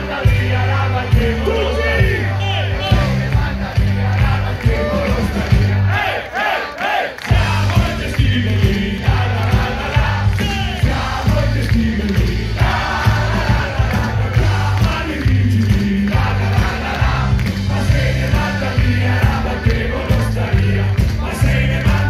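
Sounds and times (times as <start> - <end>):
live rock band playing: 0.0 - 5.9, 7.3 - 22.0
male lead vocals: 0.0 - 6.0, 7.2 - 22.0
crowd singing along: 0.0 - 22.0.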